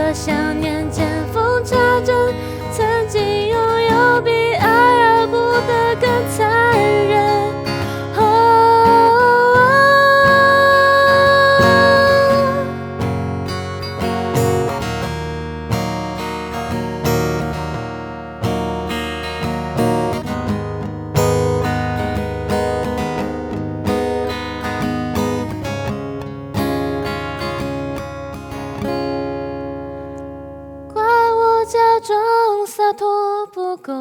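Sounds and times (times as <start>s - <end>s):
acoustic guitar chords: 0.0s - 34.0s.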